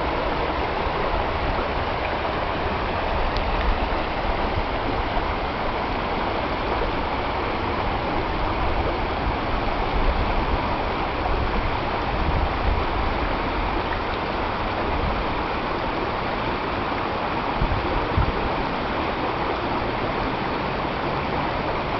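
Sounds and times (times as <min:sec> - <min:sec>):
stream rushing over rocks: 0:00.0 - 0:21.9.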